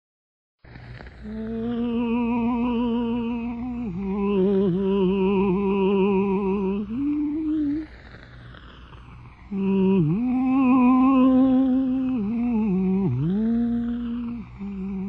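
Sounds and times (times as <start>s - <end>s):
low hum: 0.7s - 15.0s
operatic singing voice: 1.2s - 7.9s, 9.5s - 15.0s.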